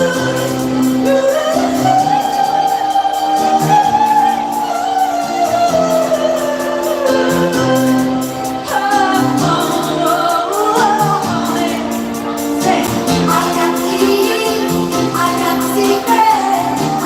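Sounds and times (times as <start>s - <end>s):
dance-pop music over sound system: 0.0s - 17.0s
woman singing: 0.0s - 17.0s.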